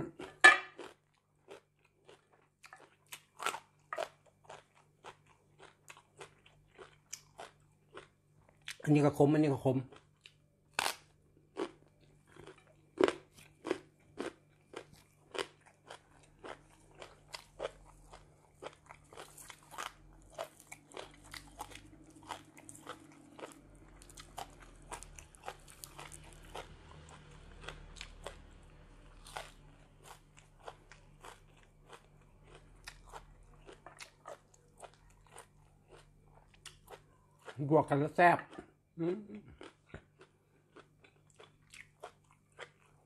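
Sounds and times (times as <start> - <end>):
crunching raw vegetables: 0.0 - 37.7.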